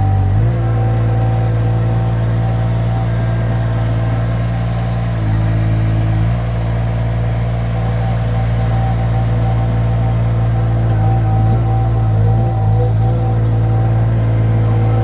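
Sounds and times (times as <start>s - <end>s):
skid steer engine running: 0.0s - 15.0s.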